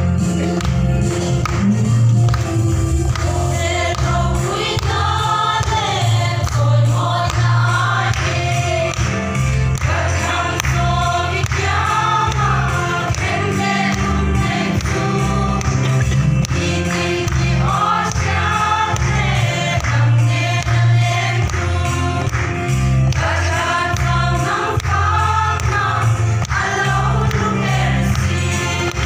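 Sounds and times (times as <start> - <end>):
amplified instrumental backing: 0.0 - 29.0
women's choir singing: 3.2 - 29.0.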